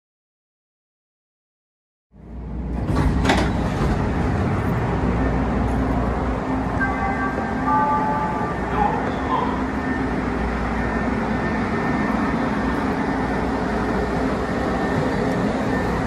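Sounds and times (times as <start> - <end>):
train car hum: 2.1 - 16.0.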